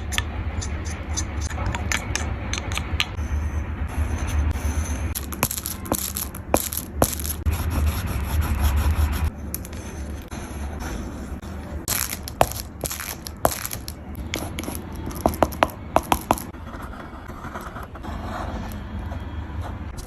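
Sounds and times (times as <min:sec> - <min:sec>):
steady low hum: 0:00.0 - 0:20.0
oil pastels scraping on paper: 0:03.2 - 0:20.0.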